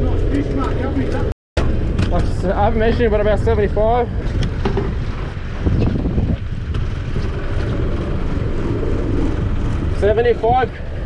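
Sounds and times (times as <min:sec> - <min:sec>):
boat engine rumbling: 0:00.0 - 0:11.0
wind buffeting microphone: 0:00.0 - 0:11.0.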